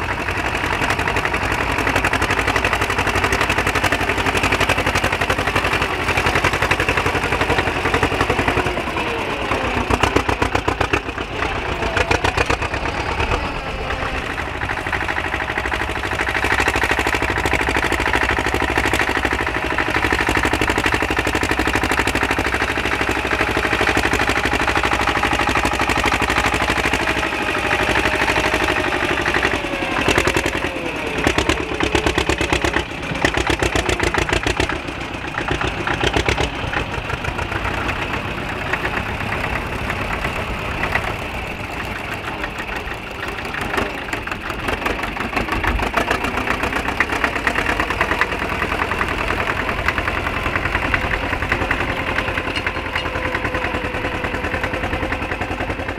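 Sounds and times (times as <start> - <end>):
tractor engines running under load: 0.0 - 55.9.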